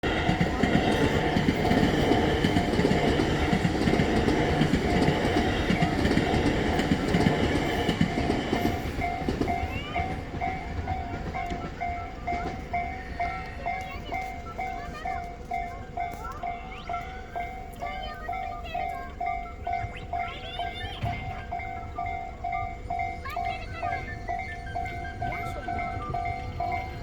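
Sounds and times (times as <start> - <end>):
crossing warning bell ringing: 0.0 - 27.0
train wheels clattering on rails: 0.0 - 27.0.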